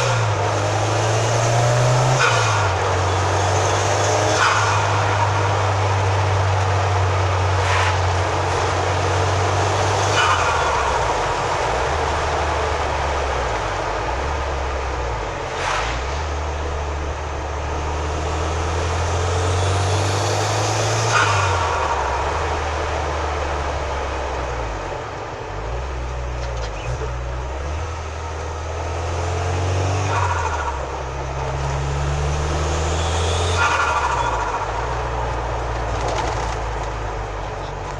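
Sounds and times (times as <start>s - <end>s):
turbocharged car engine revving: 0.0s - 37.9s.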